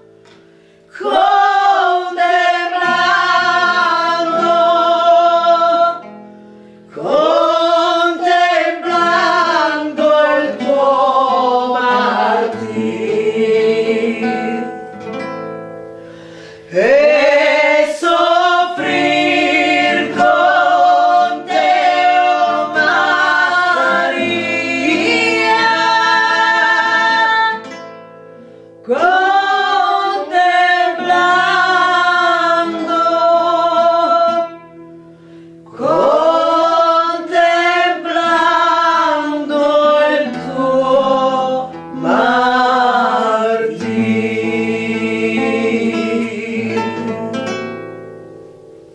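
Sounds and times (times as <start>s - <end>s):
plucked guitar: 0.0s - 48.9s
voices singing: 0.9s - 6.1s, 6.9s - 15.2s, 16.2s - 27.8s, 28.8s - 34.8s, 35.6s - 47.8s.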